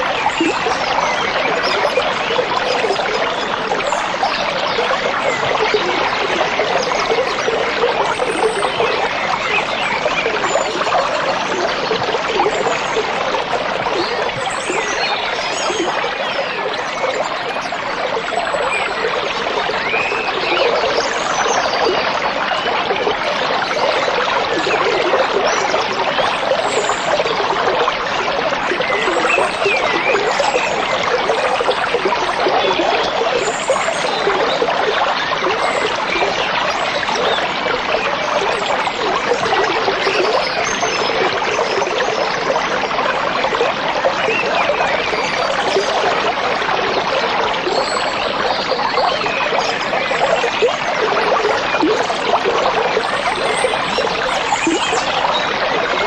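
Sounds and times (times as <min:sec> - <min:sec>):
stream rushing and trickling: 0:00.0 - 0:56.0.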